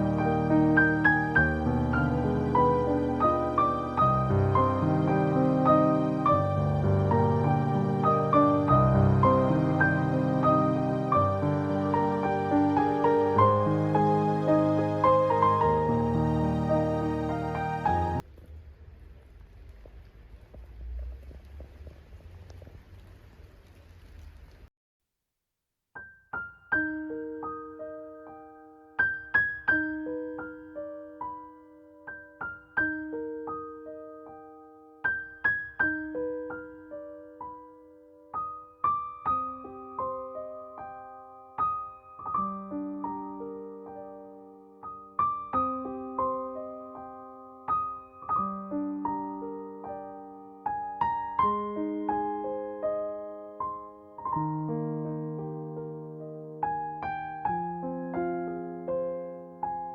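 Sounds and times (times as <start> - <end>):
soft solo piano arpeggios: 0.0 - 18.2, 26.0 - 59.9.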